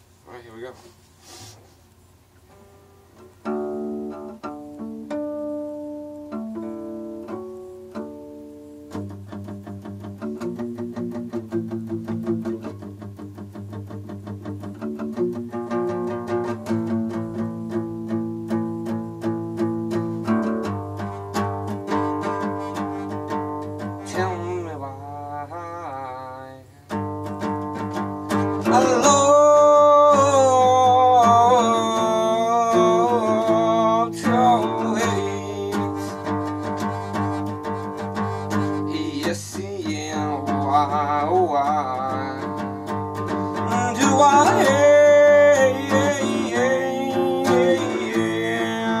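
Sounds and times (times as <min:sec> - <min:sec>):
guitar picking chords: 0:02.4 - 0:49.0.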